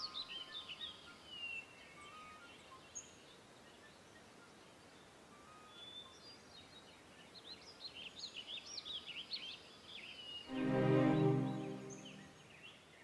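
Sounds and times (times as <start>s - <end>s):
small birds chirping: 0.0s - 10.4s
faint background hiss: 0.0s - 13.0s.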